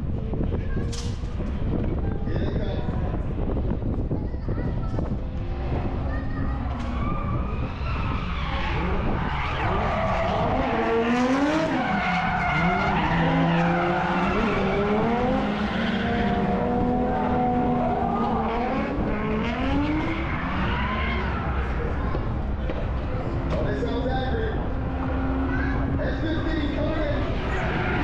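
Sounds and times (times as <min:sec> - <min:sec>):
car engine revving: 0:05.0 - 0:28.0
tyres skidding: 0:05.0 - 0:28.0.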